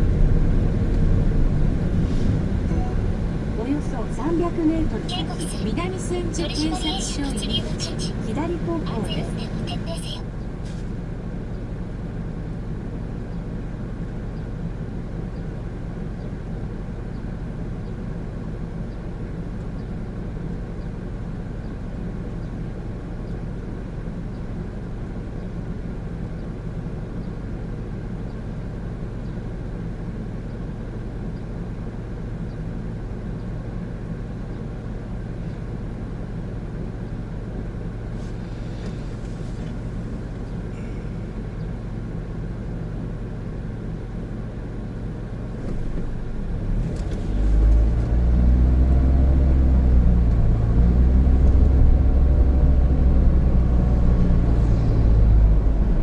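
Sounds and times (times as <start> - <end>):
car engine drone: 0.0 - 56.0
road noise: 0.0 - 56.0.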